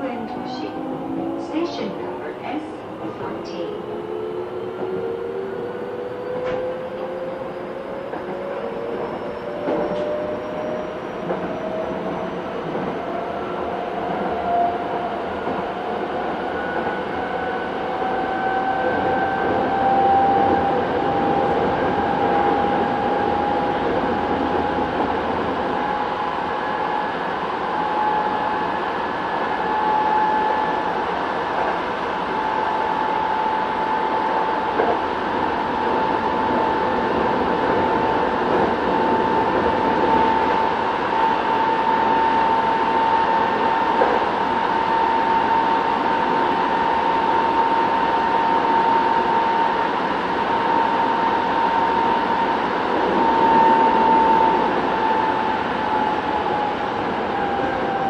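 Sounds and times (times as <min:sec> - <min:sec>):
rumble of wheels on rail: 0:00.0 - 0:58.0.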